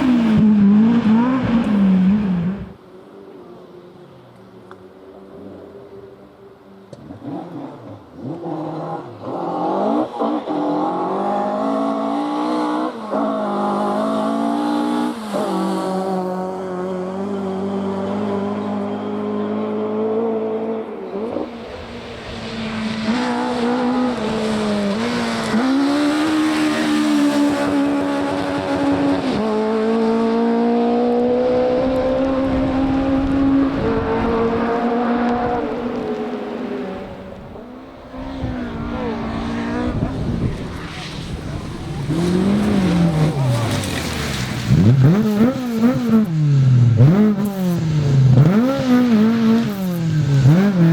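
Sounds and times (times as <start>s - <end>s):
rally car engine revving: 0.0s - 2.8s, 6.9s - 50.9s.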